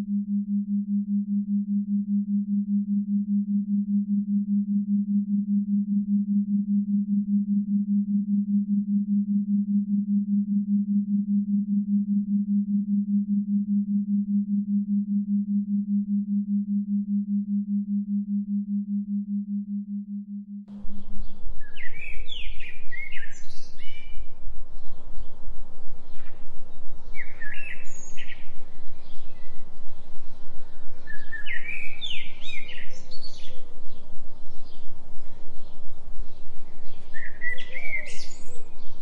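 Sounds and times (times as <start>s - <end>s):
pulsing low pure tone: 0.0s - 39.0s.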